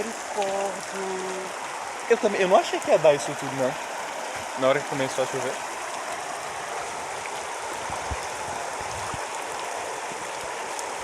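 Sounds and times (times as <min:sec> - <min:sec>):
heavy rain: 0:00.0 - 0:11.0
rainwater running off: 0:00.0 - 0:11.0.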